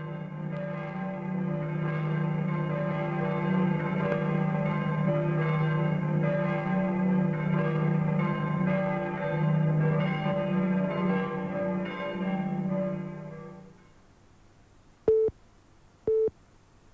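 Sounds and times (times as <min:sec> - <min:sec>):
bells pealing: 0:00.0 - 0:14.0.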